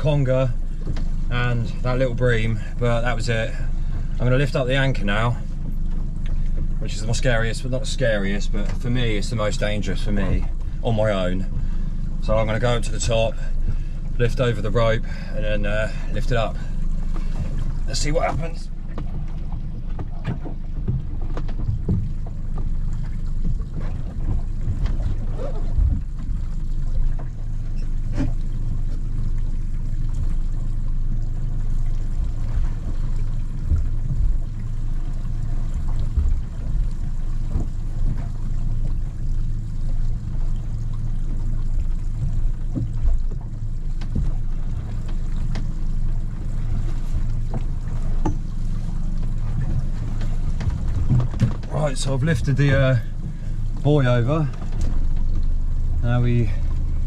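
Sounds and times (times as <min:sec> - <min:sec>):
knocks and clunks on boat deck: 0:00.0 - 0:57.0
steady low rumble: 0:00.0 - 0:57.0.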